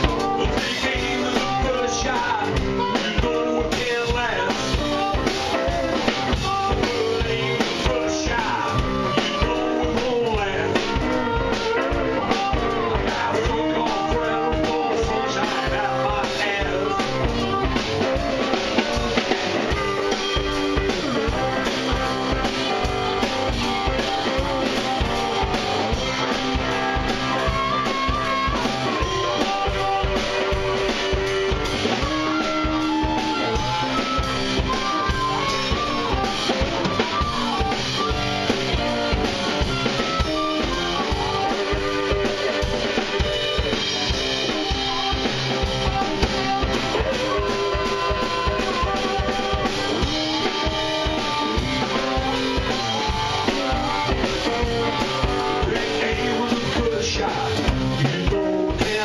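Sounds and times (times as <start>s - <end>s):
drum kit beat: 0.0s - 59.0s
electric guitar: 0.0s - 59.0s.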